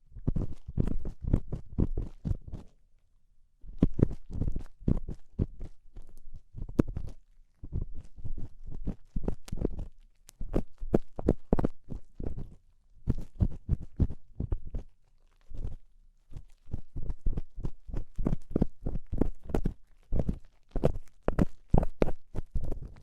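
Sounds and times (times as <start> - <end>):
tool scratching microphone ear: 3.8 - 23.0.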